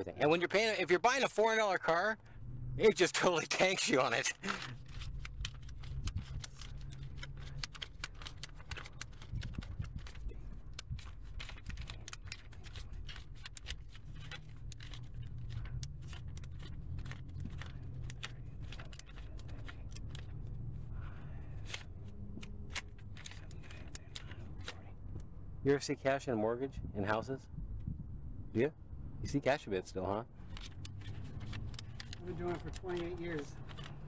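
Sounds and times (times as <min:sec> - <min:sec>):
banknotes being counted by hand: 0:00.2 - 0:02.2, 0:02.8 - 0:25.1, 0:30.2 - 0:34.0
low steady hum: 0:02.0 - 0:29.3.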